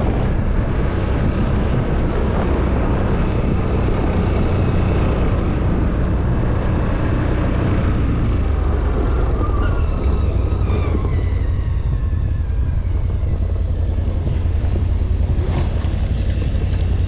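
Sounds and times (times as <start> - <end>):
atv engine droning: 0.0 - 17.0
terrain noise: 0.0 - 17.0.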